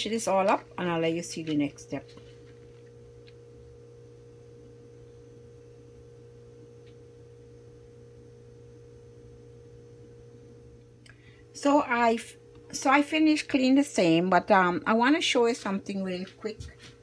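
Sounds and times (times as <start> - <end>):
faint steady two-tone hum: 0.0 - 17.0.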